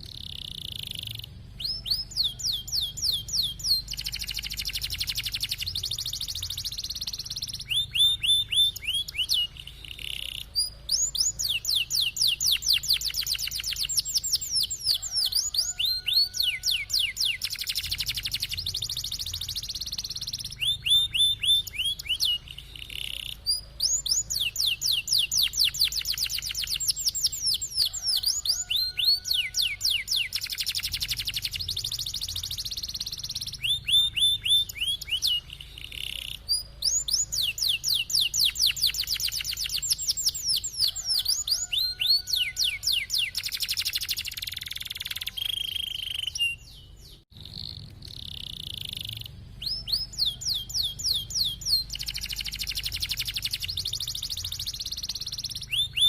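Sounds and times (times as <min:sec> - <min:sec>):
canary singing fast trills: 0:00.0 - 0:56.0.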